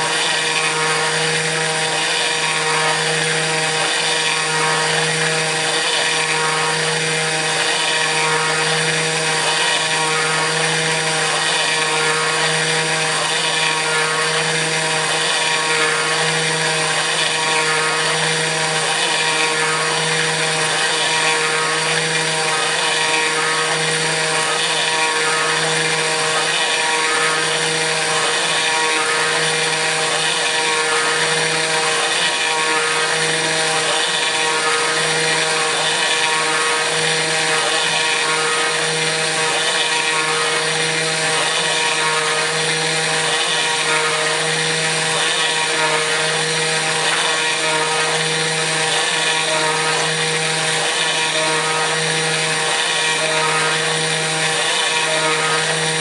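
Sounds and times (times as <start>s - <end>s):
router spindle whine: 0.0s - 56.0s.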